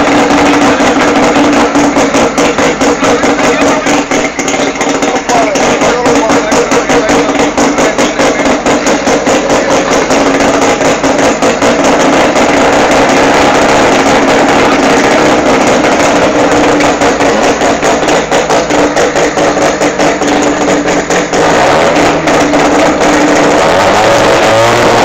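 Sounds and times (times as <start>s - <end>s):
race car engine pulsing: 0.0s - 25.0s.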